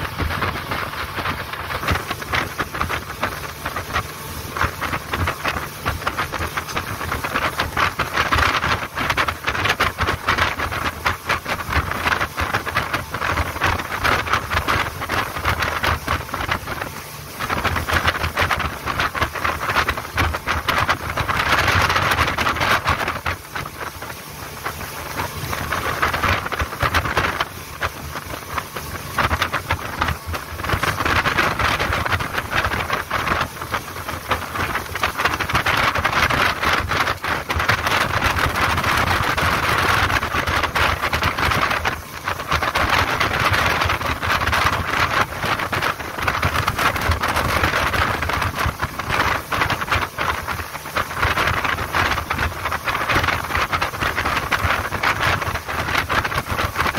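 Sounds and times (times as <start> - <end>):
boat engine hum: 0.0 - 56.9
rushing wind: 0.0 - 56.9
water spray along hull: 0.0 - 56.9.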